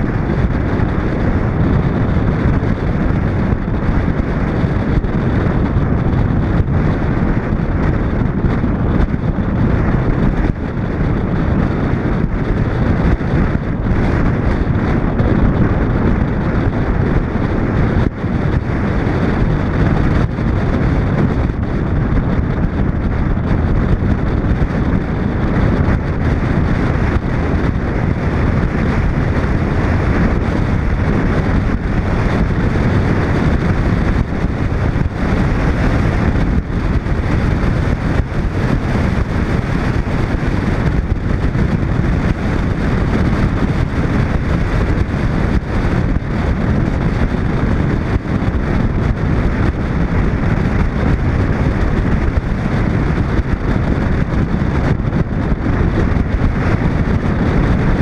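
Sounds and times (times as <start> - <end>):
car road noise: 0.0 - 58.0
wind buffeting microphone: 0.0 - 58.0.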